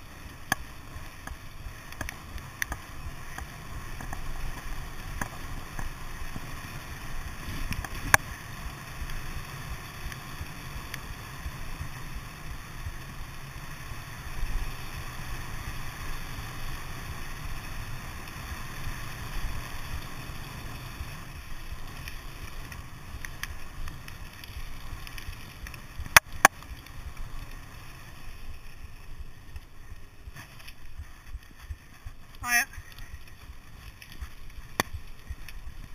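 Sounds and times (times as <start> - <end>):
bike clacks: 0.0 - 35.9
tyre rumble on tarmac: 0.0 - 35.9.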